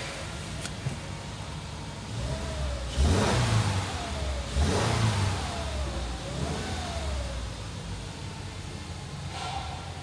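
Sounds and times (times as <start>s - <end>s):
car engine revving from idle: 1.5s - 10.0s.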